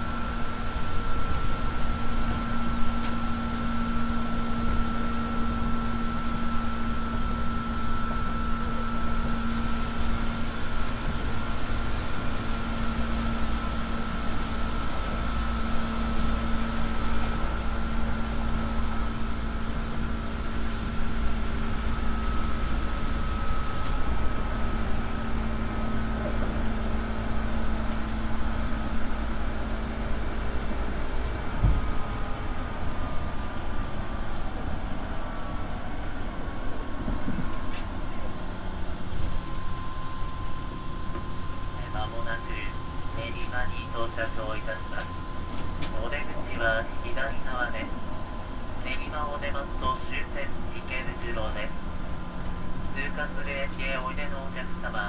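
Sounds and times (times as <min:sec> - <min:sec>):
electric train motor whine: 0:00.0 - 0:55.0
wheel-on-rail rumble: 0:00.0 - 0:55.0.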